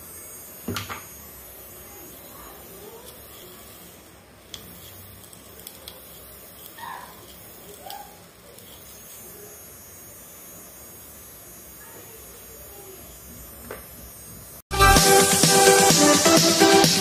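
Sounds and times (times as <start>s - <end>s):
small motor humming: 0.0s - 14.7s.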